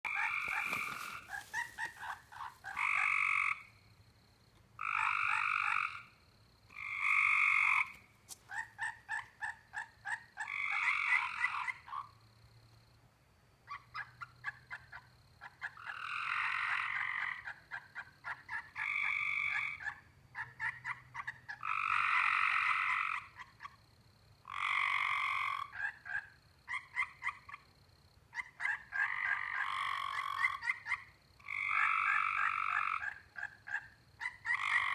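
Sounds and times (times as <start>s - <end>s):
frogs clicking: 0.0s - 3.9s, 4.5s - 12.2s, 13.7s - 23.8s, 24.4s - 34.9s
frogs trilling: 0.0s - 12.7s, 13.6s - 34.9s.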